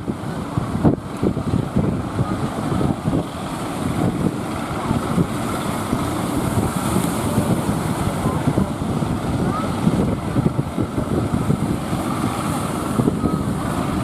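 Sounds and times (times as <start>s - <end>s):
heavy surf rushing: 0.0s - 14.0s
wind buffeting microphone: 0.0s - 14.0s.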